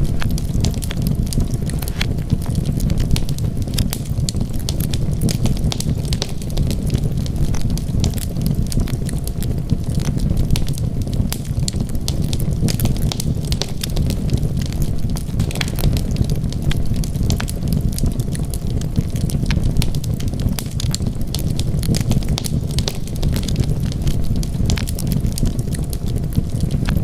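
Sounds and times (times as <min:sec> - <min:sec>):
burning wood crackling: 0:00.0 - 0:27.0
fire flames rumbling: 0:00.0 - 0:27.0.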